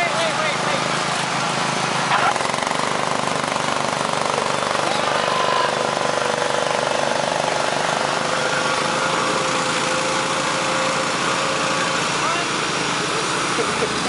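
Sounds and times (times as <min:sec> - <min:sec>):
lawn tractor engines running: 0:00.0 - 0:14.0.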